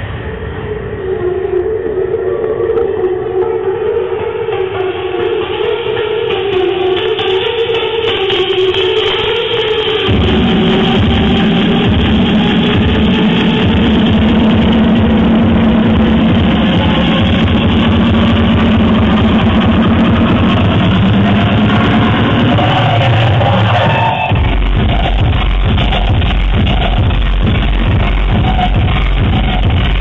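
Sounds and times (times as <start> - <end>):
hardstyle dance music: 1.0 - 30.0.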